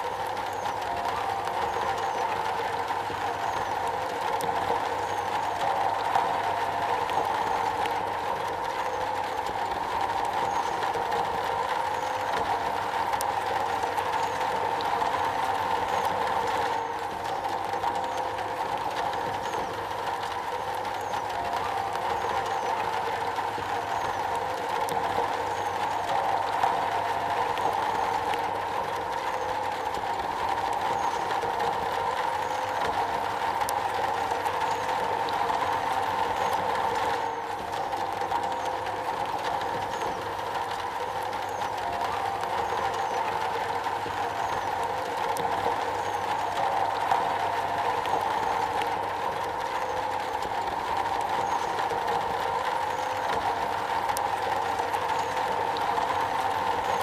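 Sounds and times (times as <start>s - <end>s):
rain on a metal roof: 0.0s - 57.0s.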